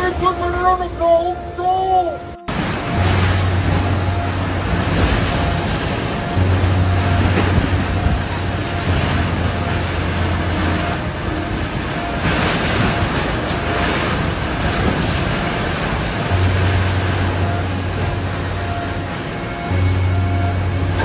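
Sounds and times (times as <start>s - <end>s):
waves surging: 0.0s - 21.0s
wind roaring: 1.4s - 21.0s
wind buffeting microphone: 2.5s - 21.0s.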